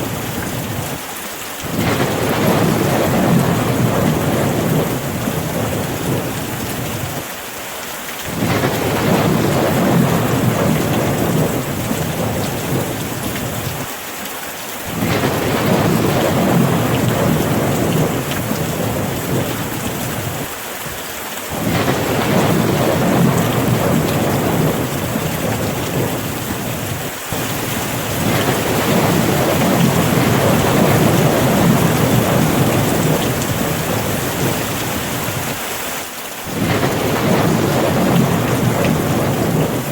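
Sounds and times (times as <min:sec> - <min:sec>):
rain hiss: 0:00.0 - 0:39.9
rolling thunder rumbles: 0:01.6 - 0:07.2, 0:08.3 - 0:13.9, 0:14.9 - 0:20.6, 0:21.5 - 0:35.6, 0:36.5 - 0:39.9.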